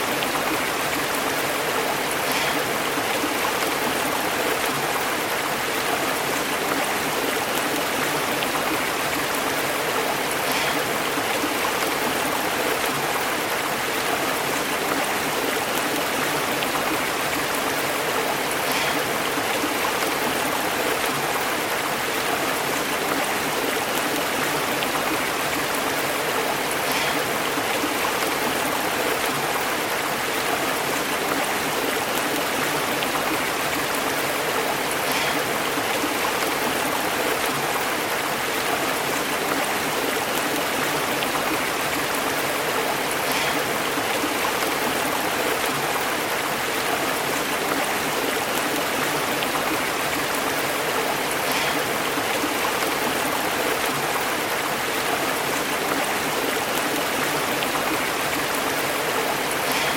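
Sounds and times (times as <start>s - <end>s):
stream burbling over rocks: 0.0s - 59.9s.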